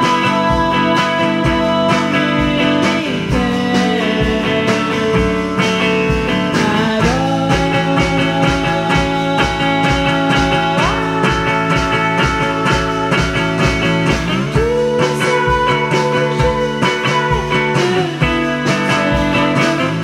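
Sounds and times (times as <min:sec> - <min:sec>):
rock music with guitar: 0:00.0 - 0:20.0
sliding bending guitar notes: 0:00.0 - 0:20.0.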